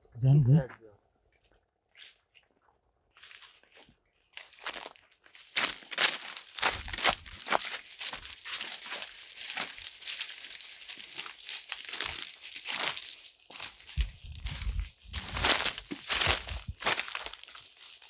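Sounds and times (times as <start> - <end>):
footsteps on dry leaves: 3.1 - 18.0.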